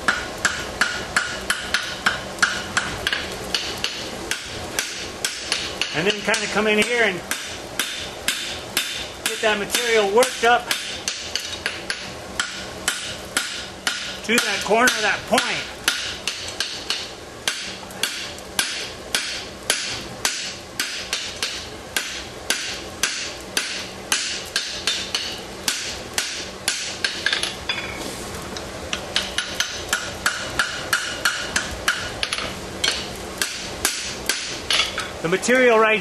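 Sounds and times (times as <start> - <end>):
hammer striking hot steel on anvil: 0.0 - 28.0, 28.9 - 35.1.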